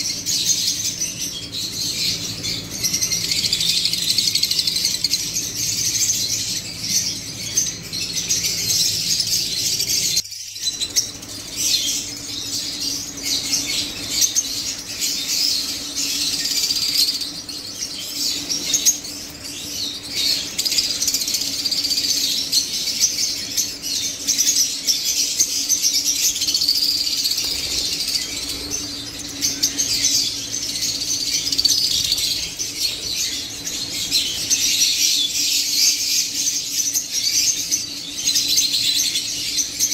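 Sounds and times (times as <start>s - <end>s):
birds chirping shrilly: 0.0s - 39.9s.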